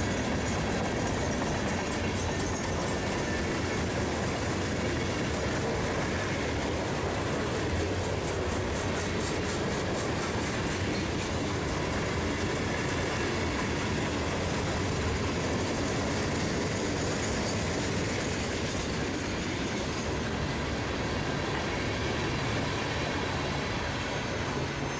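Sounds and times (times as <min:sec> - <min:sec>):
freight train wheels rumbling on rails: 0:00.0 - 0:24.9.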